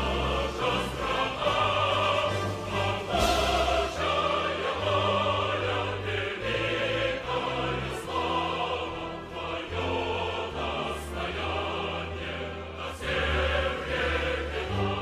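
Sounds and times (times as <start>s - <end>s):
choir singing sustained notes: 0.0s - 15.0s
orchestral backing: 0.0s - 15.0s.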